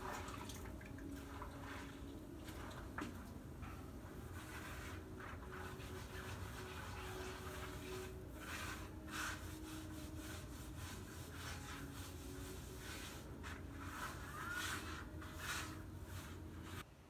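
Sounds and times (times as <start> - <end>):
rhythmic scraping on tiles: 0.0 - 16.9.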